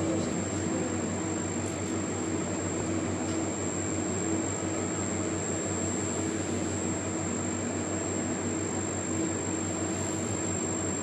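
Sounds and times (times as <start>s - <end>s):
scanner whirring hum: 0.0s - 11.0s
thin high whine: 0.0s - 11.0s.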